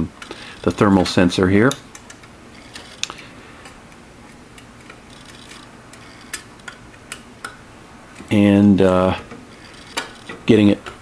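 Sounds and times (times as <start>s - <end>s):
wire connectors clicking: 0.0s - 8.4s, 9.2s - 11.0s.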